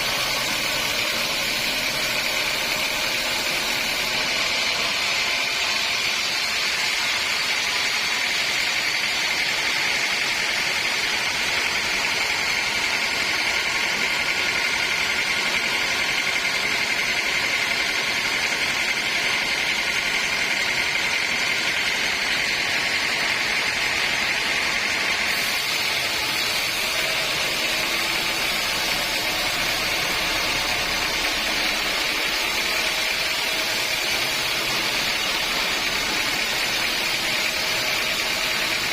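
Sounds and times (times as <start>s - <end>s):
sawmill saw whining: 0.0s - 38.9s.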